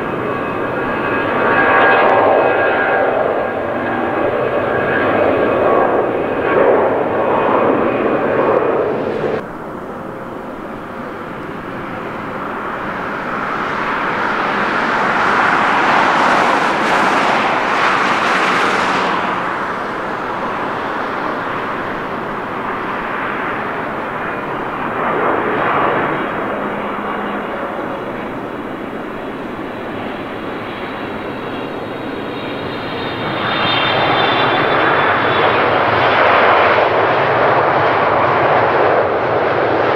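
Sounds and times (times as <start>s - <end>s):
jet airliner engines roaring: 0.0s - 39.9s.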